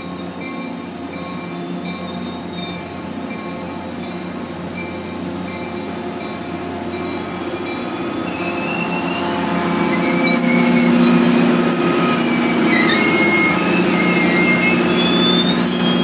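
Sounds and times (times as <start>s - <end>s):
diesel locomotive hum: 0.0s - 16.0s
train wheels squealing: 0.0s - 16.0s.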